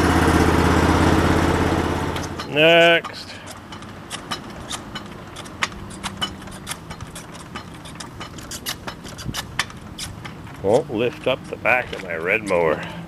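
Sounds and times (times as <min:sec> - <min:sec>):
mower lift clicks and rattles: 0:00.0 - 0:13.0.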